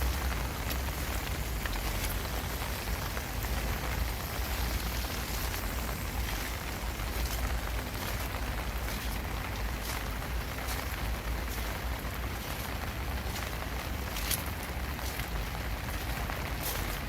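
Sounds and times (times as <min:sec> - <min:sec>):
steady low rumble: 0:00.0 - 0:17.0
steady rain falling: 0:00.0 - 0:17.0.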